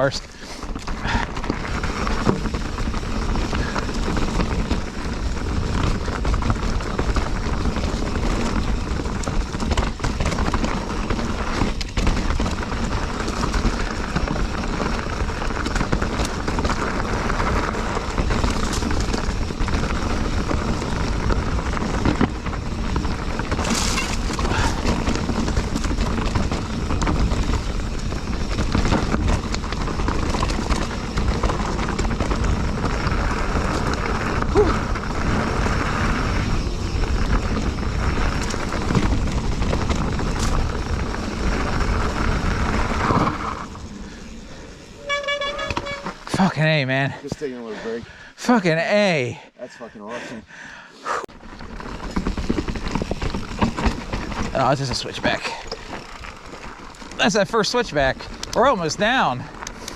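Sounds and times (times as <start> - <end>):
mountain bike rattling over rocks: 0.0 - 49.4, 51.3 - 59.9
tyres rumbling: 0.0 - 59.9.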